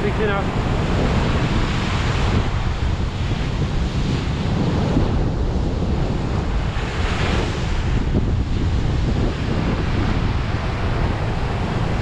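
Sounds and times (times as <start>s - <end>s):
waves breaking on beach: 0.0s - 12.0s
wind buffeting microphone: 0.0s - 12.0s.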